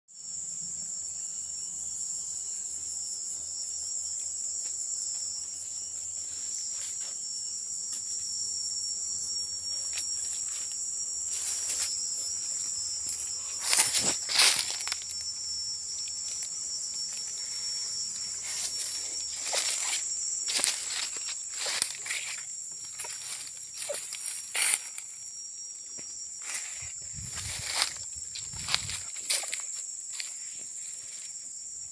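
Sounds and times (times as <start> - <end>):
insects droning: 0.1 - 31.9.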